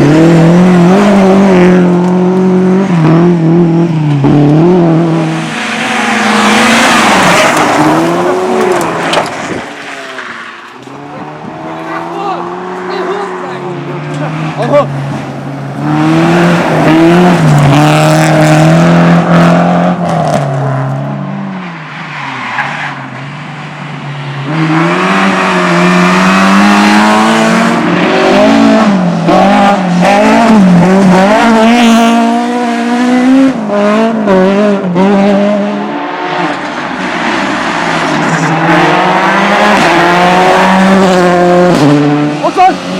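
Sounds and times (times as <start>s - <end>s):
race car engine revving: 0.0s - 21.8s, 23.6s - 42.9s.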